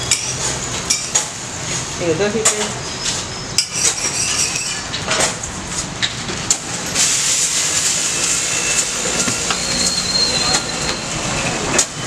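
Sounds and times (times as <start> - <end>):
motorbike and scooter traffic: 0.0 - 12.0.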